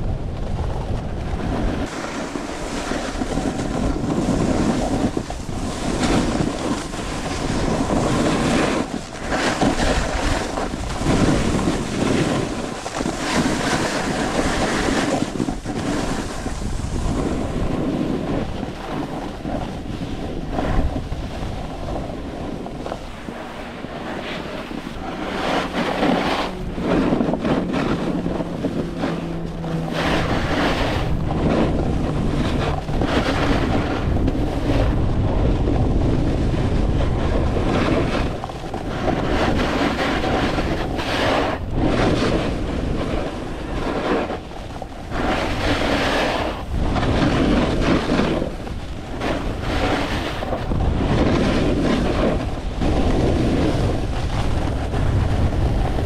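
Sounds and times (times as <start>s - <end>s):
snowboard scraping over snow: 0.0s - 56.0s
wind on microphone: 0.0s - 56.0s.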